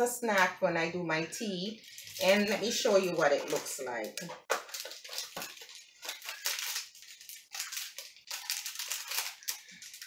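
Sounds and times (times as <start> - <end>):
cardboard box and wrapper crinkling: 1.8 - 10.0.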